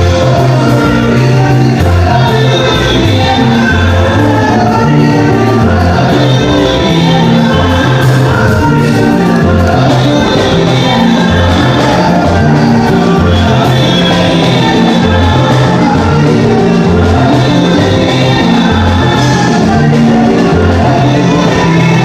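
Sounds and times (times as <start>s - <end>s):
upbeat music with singing: 0.0s - 22.0s.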